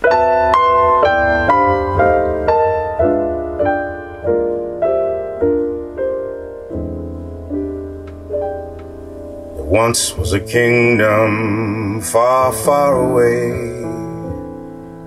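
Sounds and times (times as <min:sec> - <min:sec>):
piano chords through speakers: 0:00.0 - 0:15.0.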